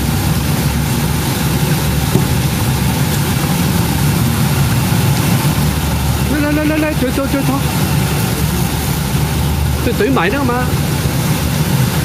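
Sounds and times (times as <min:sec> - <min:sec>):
bubbling agitated water: 0:00.0 - 0:12.0
low motor hum: 0:00.0 - 0:12.0.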